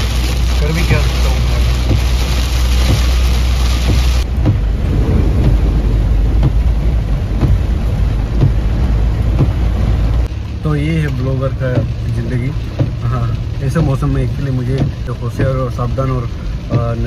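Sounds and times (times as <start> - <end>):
engine and tyres rumbling: 0.0 - 17.0
heavy rain on windshield: 0.0 - 17.0.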